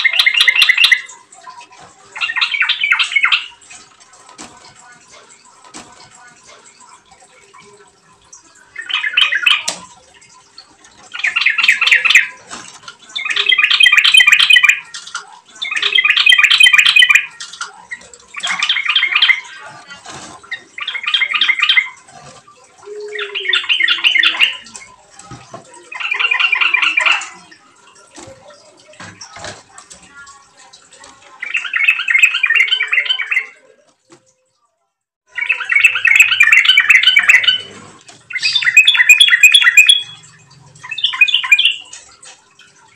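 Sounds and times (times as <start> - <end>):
bulbul singing warbled phrases: 0.0 - 3.7, 7.5 - 10.1, 11.1 - 12.5, 13.1 - 33.9, 35.3 - 42.1.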